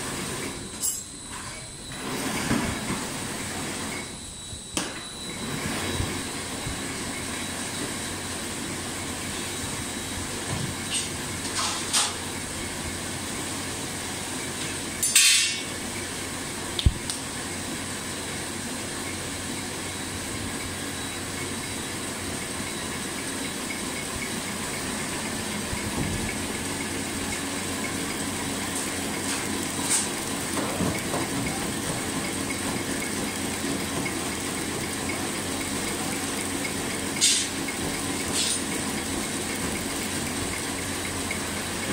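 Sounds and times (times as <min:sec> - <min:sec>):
machinery hum with high whine: 0:00.0 - 0:41.9.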